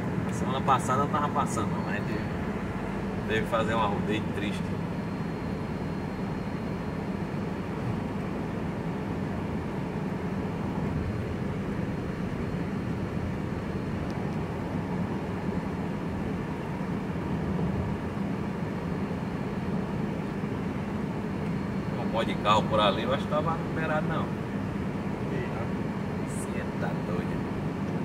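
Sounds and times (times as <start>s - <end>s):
car engine and tyre noise: 0.0s - 28.0s.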